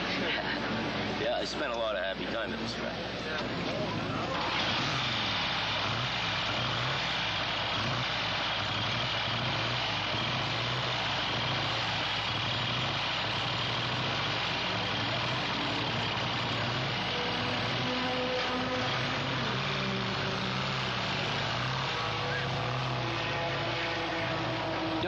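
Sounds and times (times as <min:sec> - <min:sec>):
motorcycle engines idling: 0:00.0 - 0:25.0.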